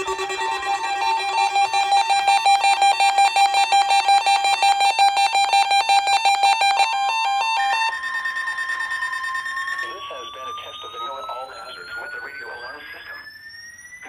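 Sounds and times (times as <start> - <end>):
steady alert tone: 0.0 - 13.1
rapid electronic beeping: 0.0 - 14.0.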